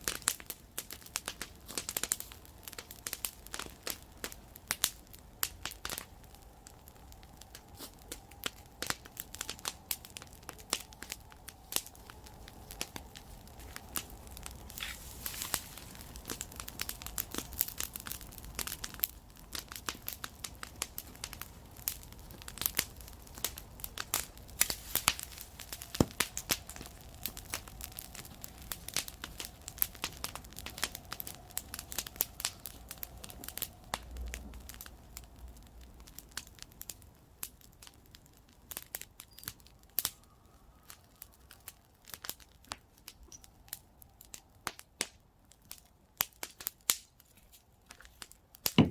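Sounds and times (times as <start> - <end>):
campfire crackling: 0.0 - 48.9.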